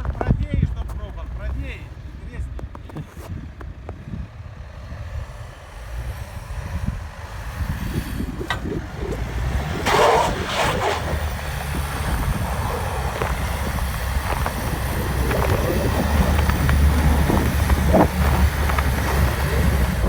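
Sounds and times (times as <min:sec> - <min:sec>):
off-road vehicle engine rumble: 0:00.0 - 0:20.0.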